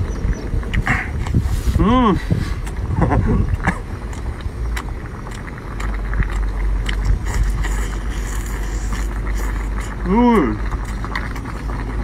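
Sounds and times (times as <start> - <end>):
low steady rumble: 0.0 - 12.0
eating noises: 0.6 - 12.0.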